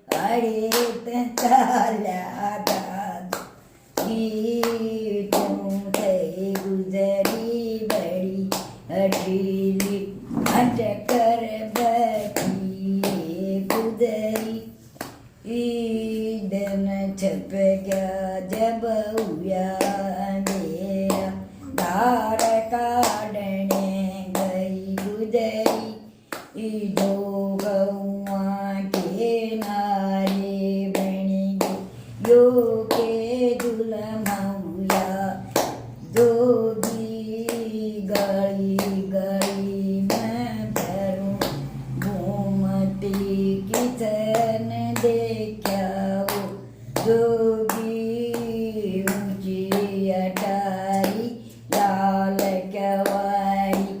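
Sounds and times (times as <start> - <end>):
hand claps: 0.0 - 15.6, 16.4 - 54.0
woman singing unaccompanied: 0.0 - 54.0.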